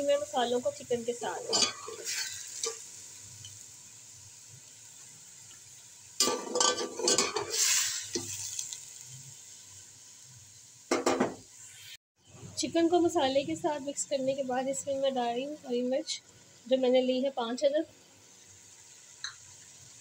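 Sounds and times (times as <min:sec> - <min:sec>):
food sizzling in metal pot: 0:00.0 - 0:20.0.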